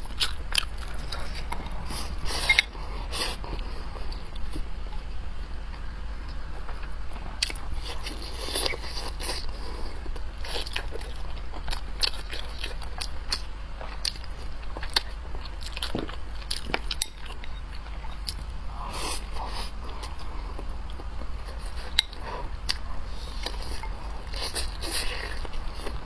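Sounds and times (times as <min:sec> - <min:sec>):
person chewing food: 0:00.0 - 0:26.0
steady low hum: 0:00.0 - 0:26.0.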